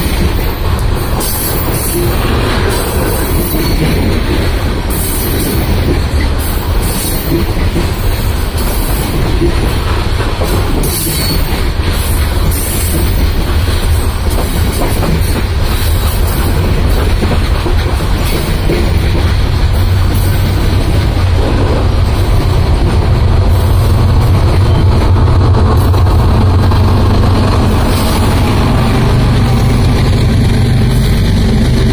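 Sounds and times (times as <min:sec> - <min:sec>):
diesel locomotive engines droning: 0:00.0 - 0:31.9
freight cars rolling on rails: 0:00.0 - 0:31.9.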